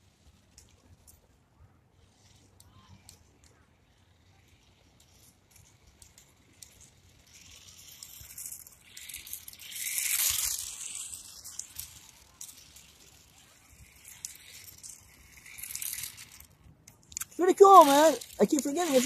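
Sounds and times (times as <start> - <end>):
rc truck motor and tyres hissing: 0.0 - 19.0.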